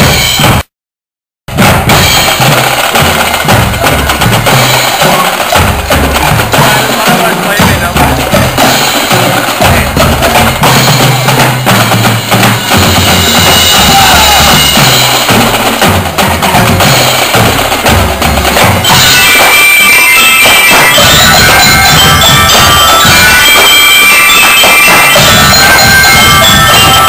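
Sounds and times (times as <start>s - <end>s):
marching snare and bass drums: 0.0s - 0.7s, 1.5s - 27.0s.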